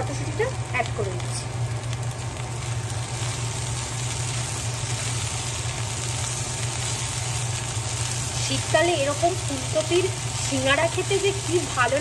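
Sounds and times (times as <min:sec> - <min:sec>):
steady low hum: 0:00.0 - 0:12.0
vegetables sizzling in oil: 0:00.0 - 0:12.0.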